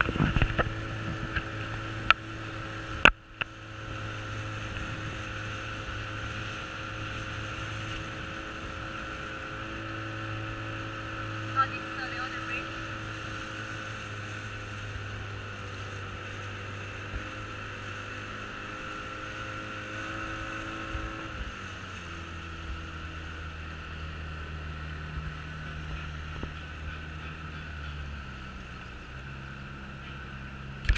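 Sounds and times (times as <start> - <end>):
motorboat engine running: 0.0 - 30.9.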